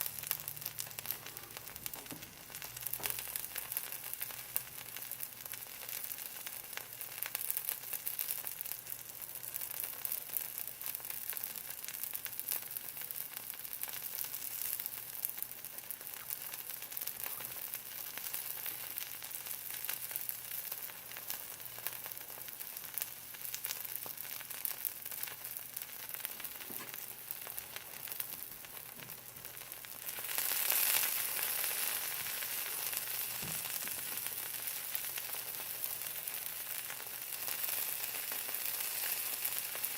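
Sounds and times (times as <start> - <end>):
food sizzling in a dry pan: 0.0 - 39.9
melting fat crackling: 0.0 - 39.9.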